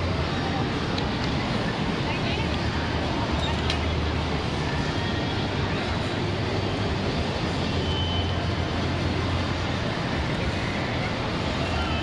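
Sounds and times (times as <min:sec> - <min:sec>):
indoor amusement hall din: 0:00.0 - 0:12.0.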